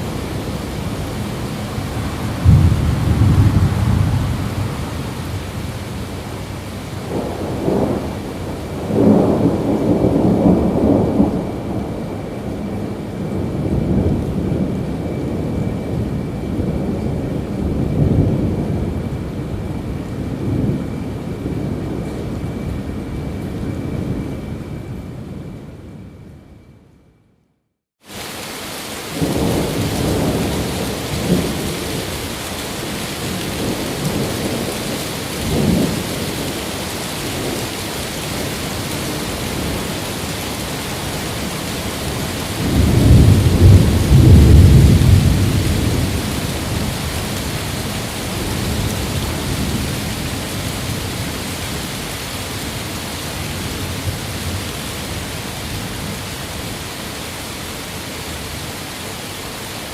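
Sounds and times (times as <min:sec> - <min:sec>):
heavy rain: 0:00.0 - 0:26.0, 0:28.0 - 0:59.9
thunder rumbling: 0:00.0 - 0:26.7, 0:28.2 - 0:57.2.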